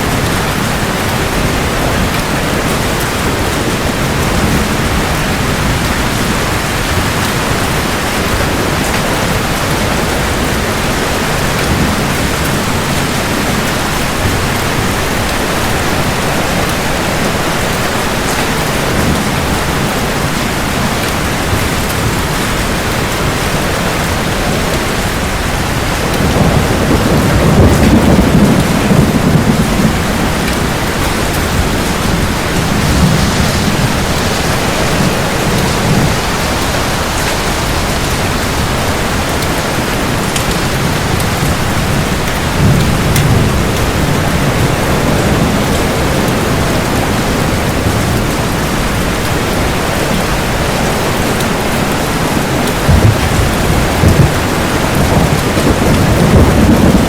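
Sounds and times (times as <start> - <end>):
low rolling thunder: 0.0 - 57.0
steady rain: 0.0 - 57.0.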